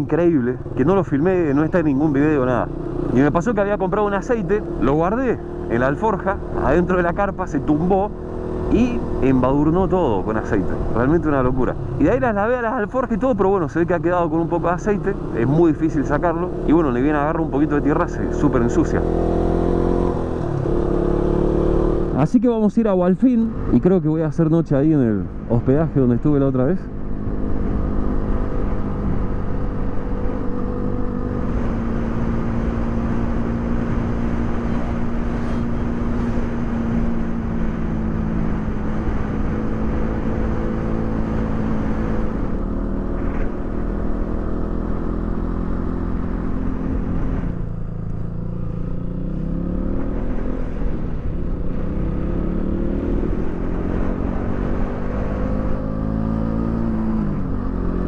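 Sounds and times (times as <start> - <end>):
motorcycle engine revving: 0.0 - 22.5, 23.1 - 58.0.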